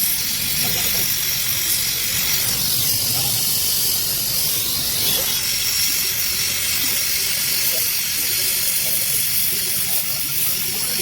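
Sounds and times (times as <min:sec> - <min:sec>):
welding torch flame hissing: 0:00.0 - 0:11.0.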